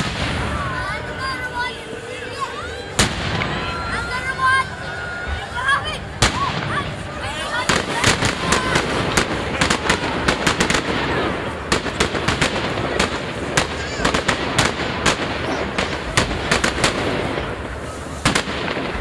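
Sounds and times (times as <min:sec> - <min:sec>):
fireworks crackling: 0:00.0 - 0:19.0
fireworks cracks and bangs: 0:00.0 - 0:19.0.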